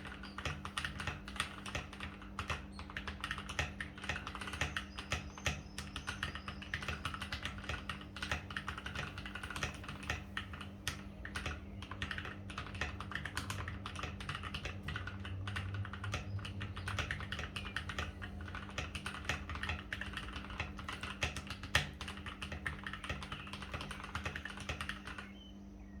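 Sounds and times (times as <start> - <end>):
mechanical keyboard typing: 0.0 - 25.3.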